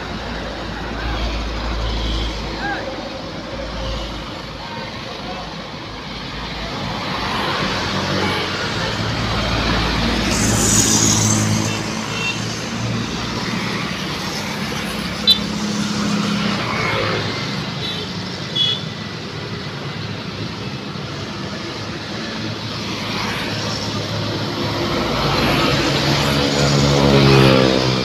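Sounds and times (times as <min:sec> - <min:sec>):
traffic engines running: 0:00.0 - 0:28.0.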